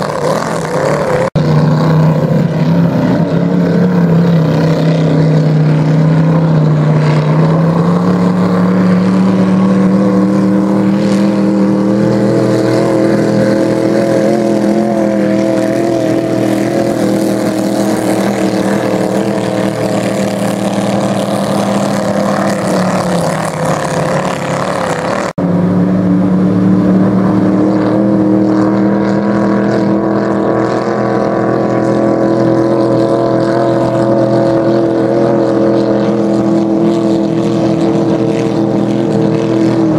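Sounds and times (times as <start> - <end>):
race boat engine buzzing: 0.0 - 39.9.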